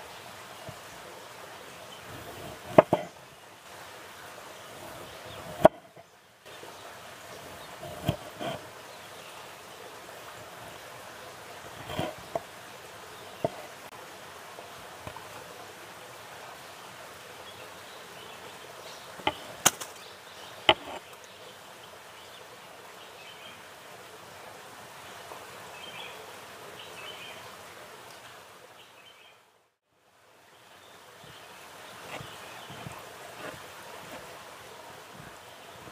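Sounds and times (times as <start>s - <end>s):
outdoor background hiss: 0.0s - 35.9s.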